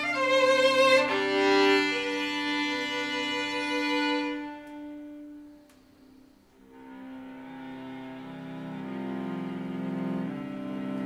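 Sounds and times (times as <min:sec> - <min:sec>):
cello bowed notes: 0:00.0 - 0:11.0
violin bowed notes: 0:00.0 - 0:11.0.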